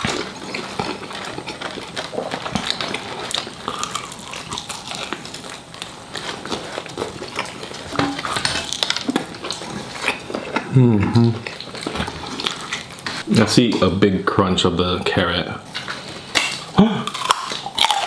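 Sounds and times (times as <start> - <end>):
person chewing crunchy food: 0.0 - 14.0, 15.6 - 18.0.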